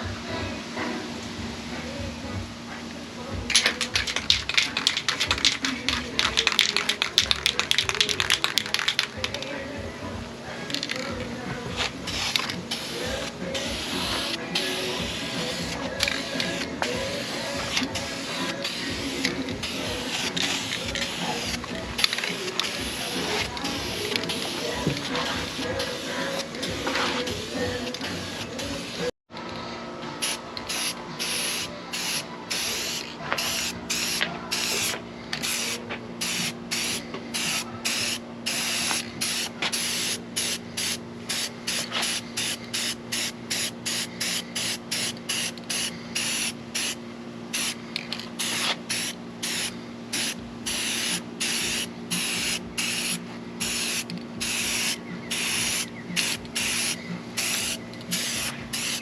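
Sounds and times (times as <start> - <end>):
spray paint hissing: 3.5 - 9.5, 10.7 - 29.1, 30.2 - 59.0.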